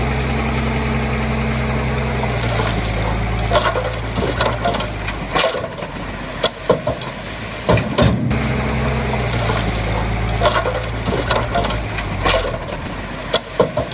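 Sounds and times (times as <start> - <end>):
diesel engine running: 0.0 - 13.9
sharp metallic clanks and knocks: 2.4 - 13.9.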